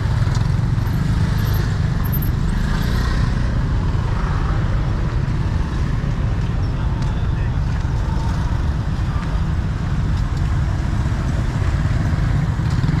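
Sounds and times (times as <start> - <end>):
scooters and cars driving past: 0.0 - 13.0.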